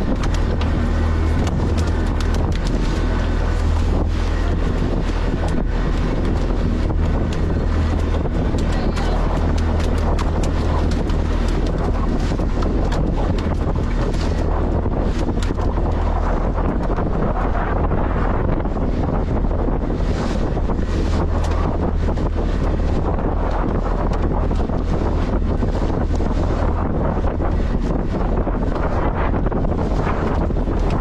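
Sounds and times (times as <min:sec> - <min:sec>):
boat engine running: 0:00.0 - 0:31.0
wind buffeting microphone: 0:00.0 - 0:31.0.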